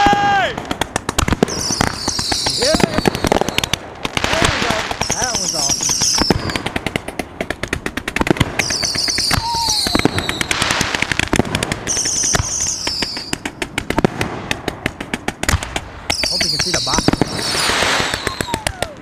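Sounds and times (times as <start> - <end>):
fireworks cracking and crackling: 0.0 - 19.0.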